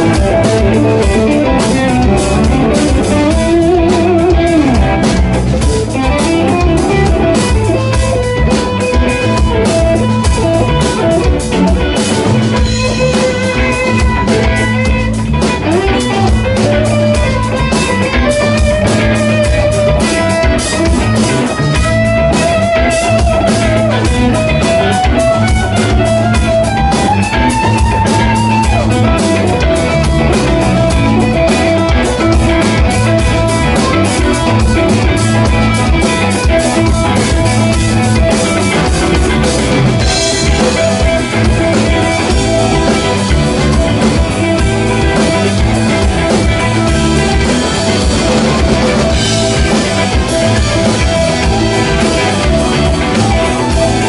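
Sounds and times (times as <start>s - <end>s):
electric guitar lead: 0.0s - 54.0s
rock band playing: 0.0s - 54.0s.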